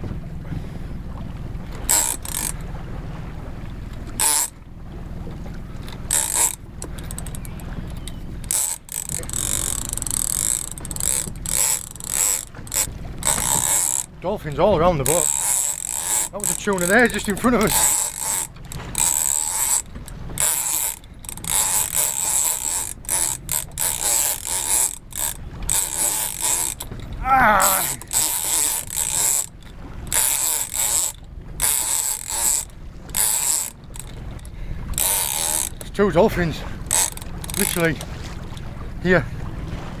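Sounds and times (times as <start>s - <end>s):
fishing reel drag ratcheting buzz: 1.7s - 2.8s, 3.9s - 4.7s, 5.8s - 14.2s, 15.0s - 38.7s.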